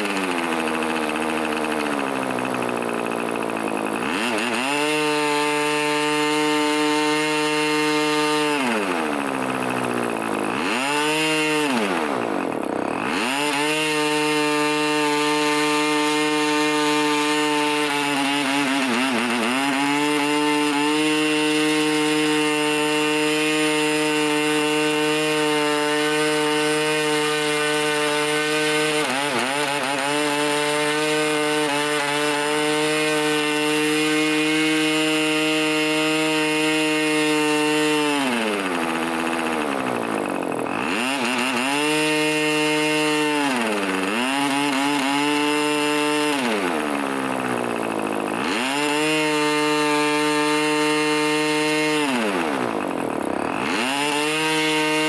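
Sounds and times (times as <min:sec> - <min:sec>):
model engine running at high speed: 0:00.0 - 0:55.0.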